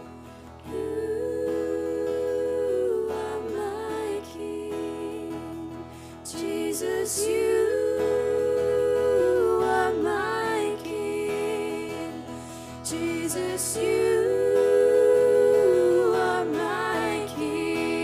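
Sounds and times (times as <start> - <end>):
acoustic guitar: 0.0 - 18.0
women singing: 0.0 - 18.0.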